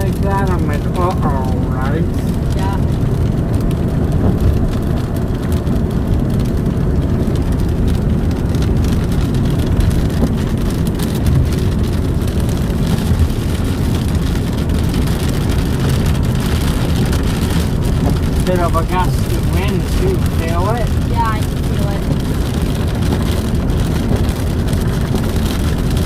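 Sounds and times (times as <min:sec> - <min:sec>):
raindrops ticking: 0:00.0 - 0:26.0
gusty wind on microphone: 0:02.0 - 0:26.0.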